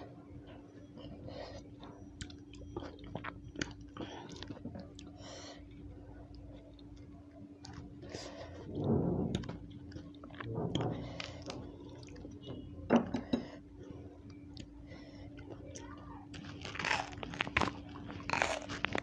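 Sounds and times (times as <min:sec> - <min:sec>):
chewing raw vegetables: 0:00.9 - 0:12.5, 0:14.2 - 0:19.0.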